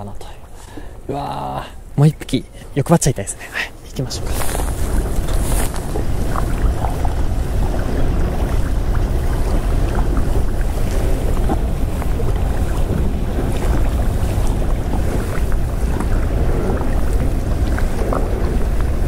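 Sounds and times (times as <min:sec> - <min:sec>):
wind buffeting microphone: 0:00.7 - 0:19.0.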